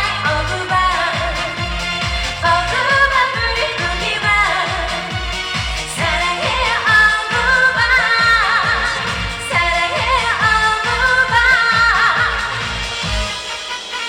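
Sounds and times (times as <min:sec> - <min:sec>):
woman singing with vibrato: 0:00.0 - 0:13.0
backing track with drum beat: 0:00.0 - 0:14.0.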